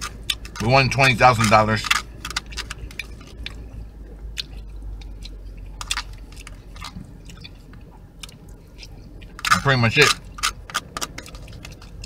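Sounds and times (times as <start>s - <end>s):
person chewing food: 0.0s - 12.0s
steady low hum: 0.0s - 12.0s.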